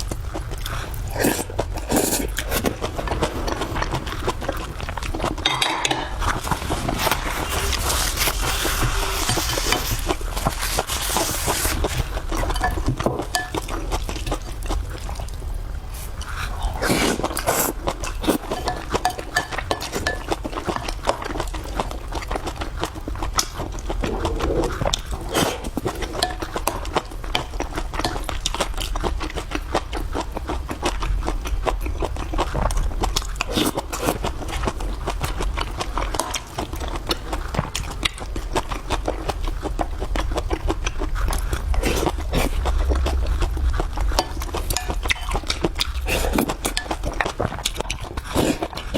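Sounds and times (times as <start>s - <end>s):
person chewing food: 0.0s - 48.9s.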